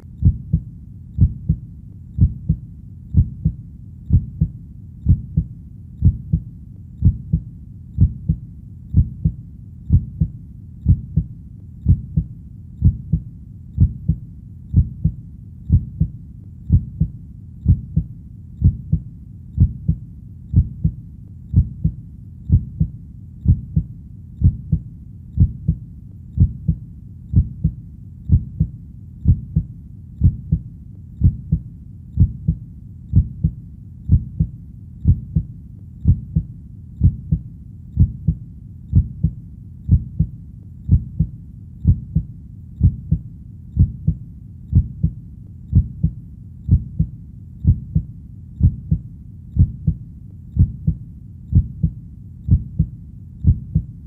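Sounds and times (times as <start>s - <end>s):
heartbeat thuds: 0.1s - 54.0s.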